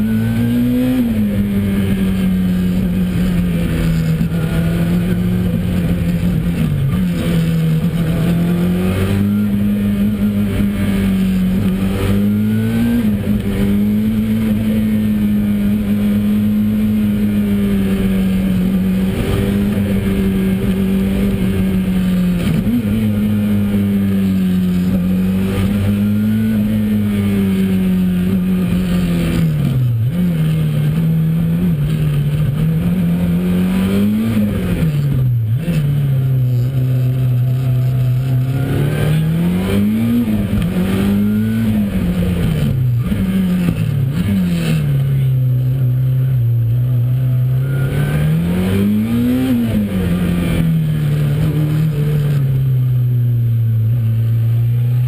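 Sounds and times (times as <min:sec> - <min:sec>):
car engine driven hard: 0:00.0 - 0:55.0.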